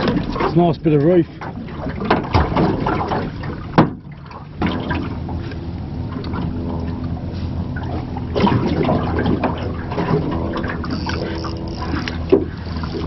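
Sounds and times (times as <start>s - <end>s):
steady low hum: 0.0s - 13.0s
water lapping against boat hull: 0.0s - 13.0s.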